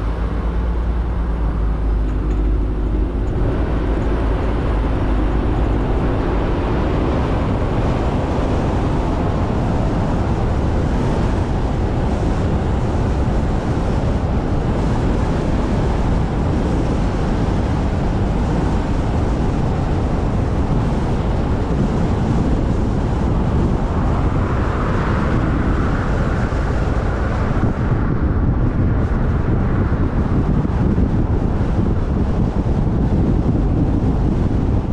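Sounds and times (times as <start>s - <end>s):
car road and wind noise: 0.0s - 34.9s
wind buffeting microphone: 0.0s - 34.9s.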